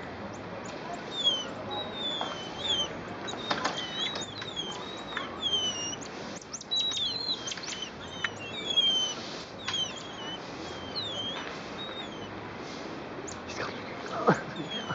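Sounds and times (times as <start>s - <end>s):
tamarins chirping and whistling: 0.3s - 12.4s, 13.2s - 14.9s.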